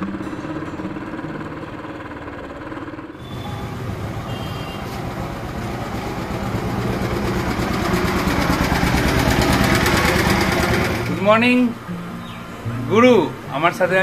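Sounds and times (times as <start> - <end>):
motorcycle engine accelerating: 0.0 - 14.0
road and wind noise: 0.7 - 14.0.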